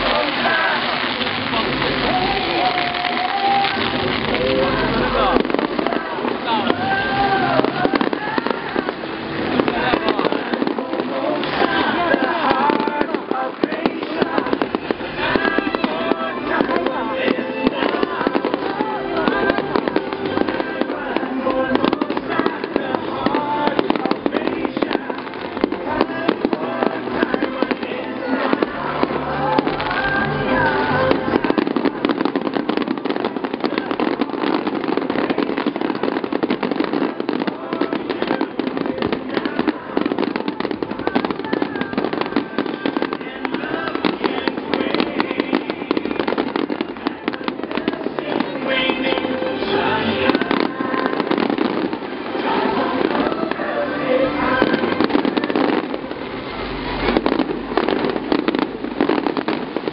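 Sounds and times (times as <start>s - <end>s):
fireworks crackling and popping: 0.0s - 59.9s
music: 0.0s - 59.9s
voices: 0.0s - 59.9s.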